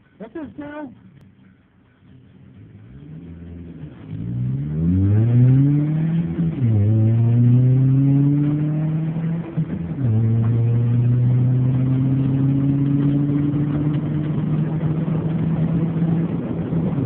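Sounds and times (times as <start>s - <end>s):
car engine accelerating hard: 0.3s - 17.0s.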